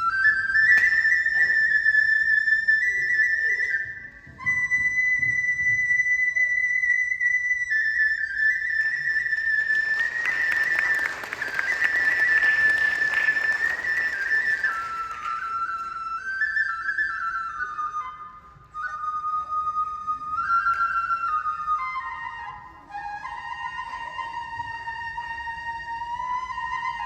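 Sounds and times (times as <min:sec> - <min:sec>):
bamboo flute melody: 0:00.0 - 0:27.0.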